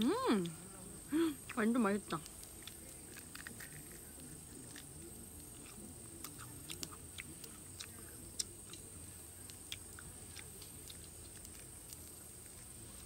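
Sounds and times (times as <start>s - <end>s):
chewing with wet mouth smacks: 1.5s - 13.0s.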